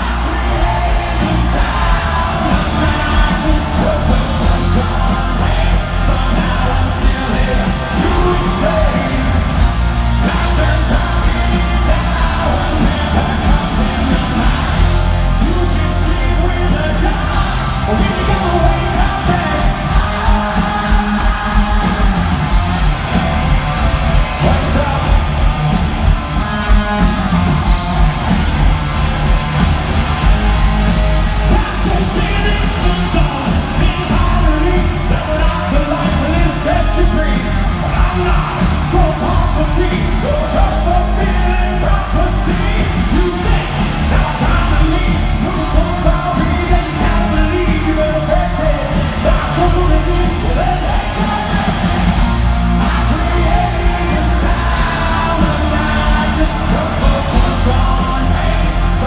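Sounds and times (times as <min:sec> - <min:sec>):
hard rock band playing live: 0:00.0 - 0:59.0
pounding drums: 0:00.0 - 0:59.0
shouted sung lead vocal: 0:00.0 - 0:59.0.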